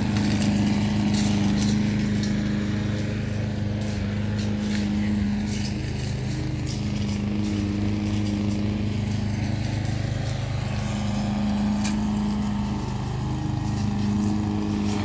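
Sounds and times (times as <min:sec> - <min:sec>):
brush cutter engines running: 0:00.0 - 0:15.0.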